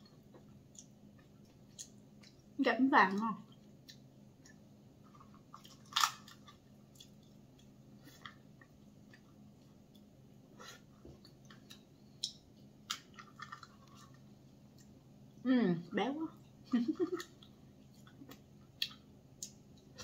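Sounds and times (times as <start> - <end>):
person chewing wetly: 0.1 - 2.6, 3.5 - 15.0, 17.2 - 20.0.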